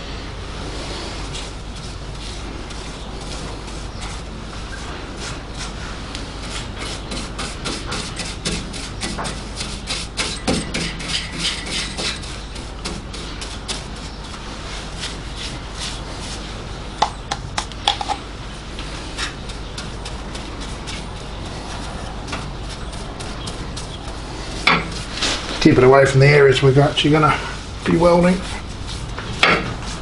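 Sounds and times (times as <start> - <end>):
paintbrush scrubbing on rusty metal: 0.6 - 17.2, 18.0 - 30.0.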